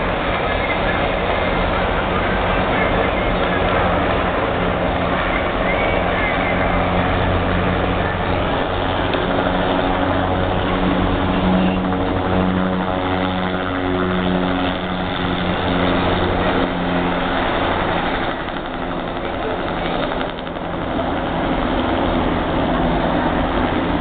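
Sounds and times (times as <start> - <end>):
helicopter rotor and engine drone: 0.0 - 24.0.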